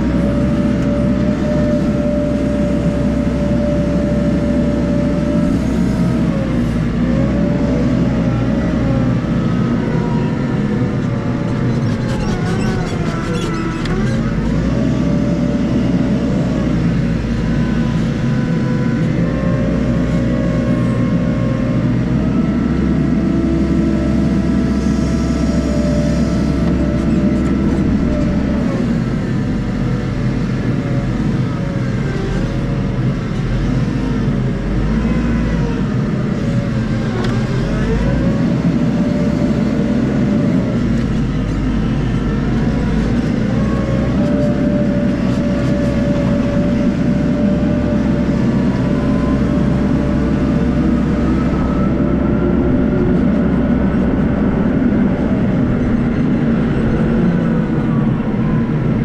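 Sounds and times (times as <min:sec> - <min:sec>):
wheel loader diesel engine: 0:00.0 - 0:59.0.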